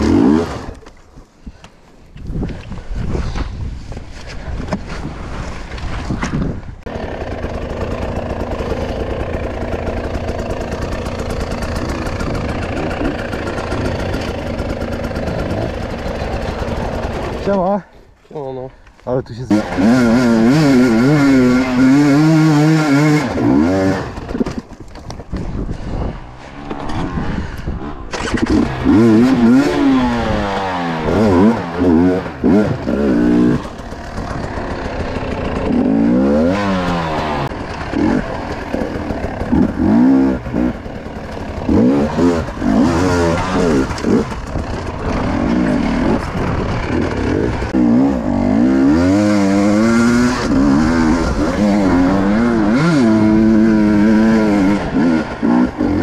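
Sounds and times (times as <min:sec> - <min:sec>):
motorcycle engine revving: 0:00.0 - 0:00.9, 0:06.8 - 0:17.6, 0:19.5 - 0:24.8, 0:25.4 - 0:56.0.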